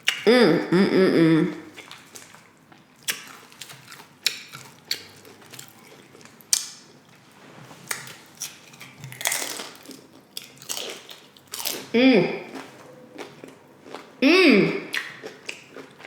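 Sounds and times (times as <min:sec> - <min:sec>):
chewing crunchy chips: 0:01.7 - 0:07.2, 0:07.9 - 0:14.2, 0:14.8 - 0:16.0.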